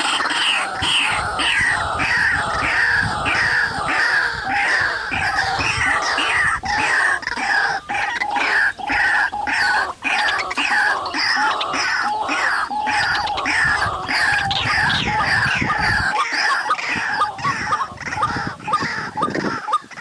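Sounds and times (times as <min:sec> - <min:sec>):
waterhens calling harshly: 0:00.0 - 0:20.0.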